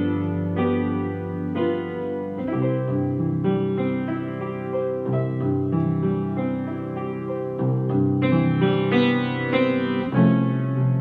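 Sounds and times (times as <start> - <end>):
slow piano ballad: 0.0 - 11.0.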